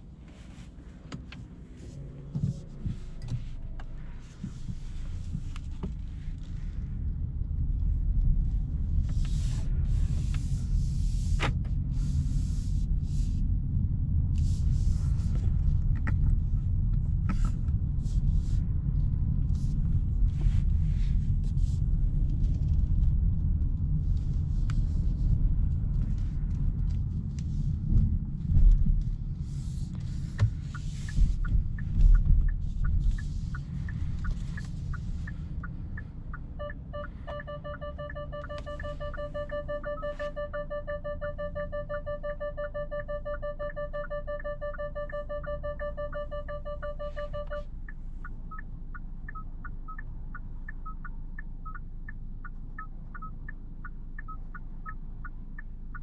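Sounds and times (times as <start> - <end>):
car interior engine rumble: 0.0 - 56.0.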